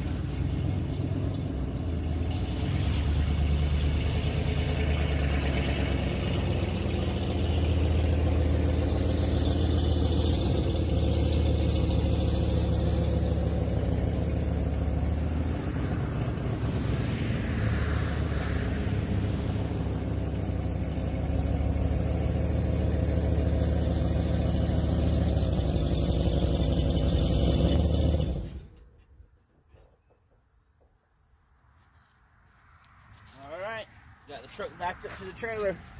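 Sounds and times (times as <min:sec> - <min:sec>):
truck engine running: 0:00.0 - 0:28.8.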